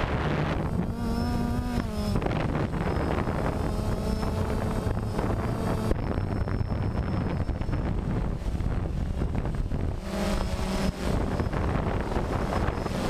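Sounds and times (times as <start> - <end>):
drone propellers whirring: 0.0 - 13.0
wind noise on microphone: 0.0 - 13.0.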